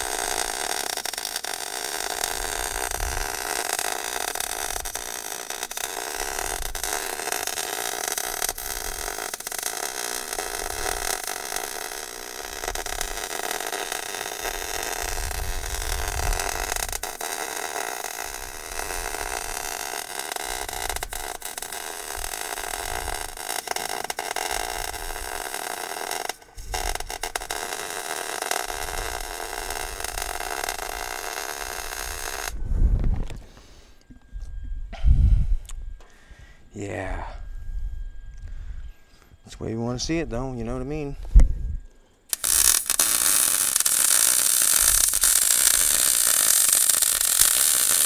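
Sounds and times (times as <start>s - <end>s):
welding arc crackling: 0.0s - 34.1s, 42.2s - 48.0s.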